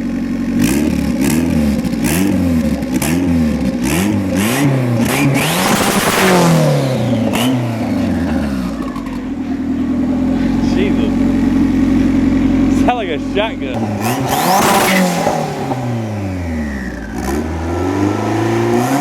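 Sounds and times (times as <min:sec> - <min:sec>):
car engine revving: 0:00.0 - 0:19.0
exhaust bangs: 0:00.0 - 0:19.0.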